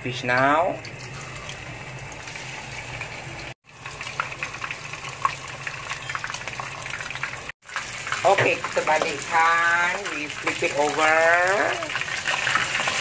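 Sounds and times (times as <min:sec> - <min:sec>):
fish deep-frying in hot oil: 0:00.0 - 0:13.0
oil popping and crackling: 0:00.8 - 0:13.0.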